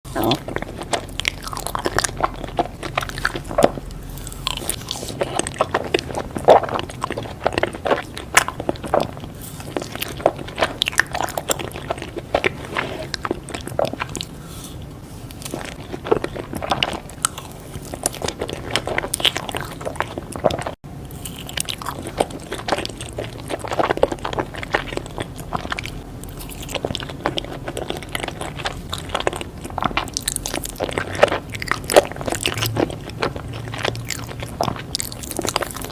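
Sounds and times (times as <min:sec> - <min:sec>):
chewing crunchy sweets: 0:00.1 - 0:35.9.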